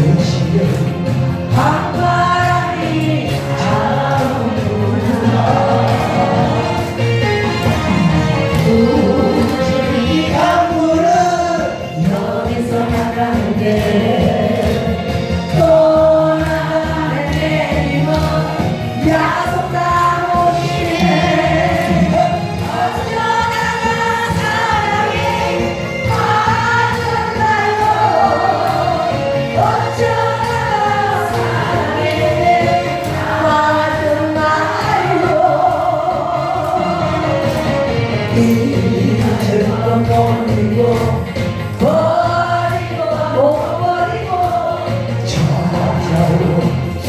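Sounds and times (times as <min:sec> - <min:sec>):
backing track: 0:00.0 - 0:47.0
several voices singing together: 0:00.0 - 0:47.0.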